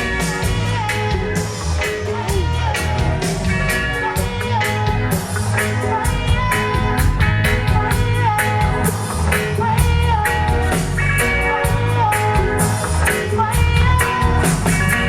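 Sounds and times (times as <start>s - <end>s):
reggae band playing: 0.0s - 15.0s
repeating lead melody: 0.0s - 15.0s.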